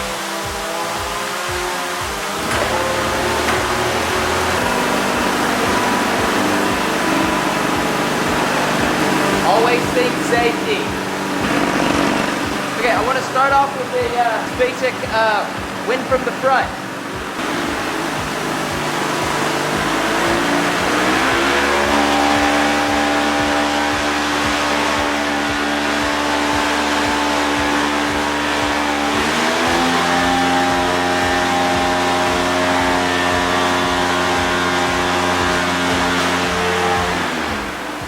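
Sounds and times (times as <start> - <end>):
blower motor running: 0.0 - 38.0.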